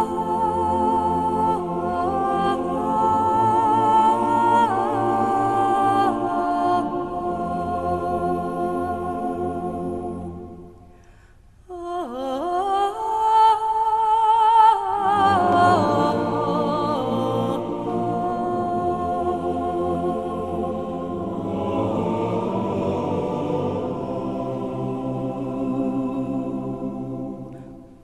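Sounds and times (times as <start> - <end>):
person singing with vibrato: 0.0 - 28.0.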